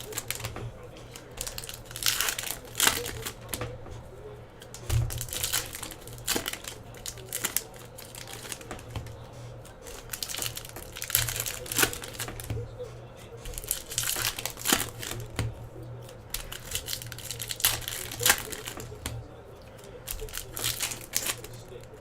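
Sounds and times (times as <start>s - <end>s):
wrapper crinkling: 0.0s - 4.0s, 4.6s - 22.0s
cards clicking and tapping: 0.0s - 22.0s.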